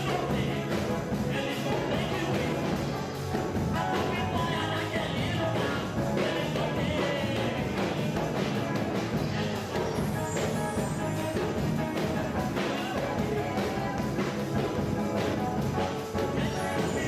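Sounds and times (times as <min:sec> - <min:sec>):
gospel band music: 0:00.0 - 0:17.0.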